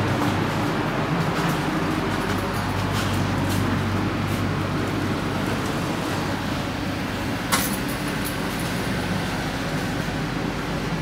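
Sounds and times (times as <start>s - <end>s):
train carriage rumble and hum: 0.0s - 11.0s.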